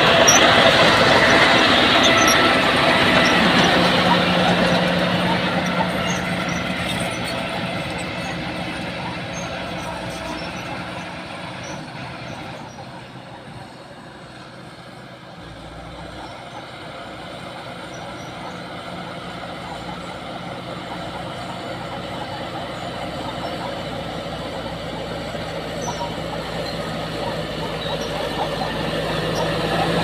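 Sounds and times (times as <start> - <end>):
bulldozer engine running: 0.0 - 30.0.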